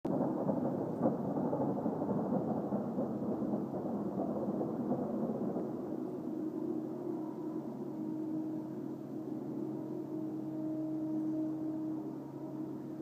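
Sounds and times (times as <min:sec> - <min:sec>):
low rumbling drone: 0:00.1 - 0:13.0
faint humming tones: 0:00.5 - 0:13.0.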